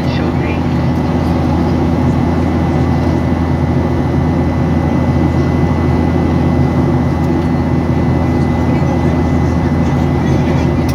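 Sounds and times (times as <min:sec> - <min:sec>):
airplane cabin engine roar: 0:00.0 - 0:10.9.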